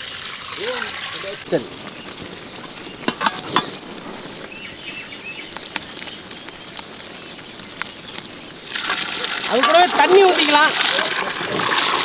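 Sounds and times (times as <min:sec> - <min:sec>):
gravy bubbling in a pot: 0:00.0 - 0:12.0.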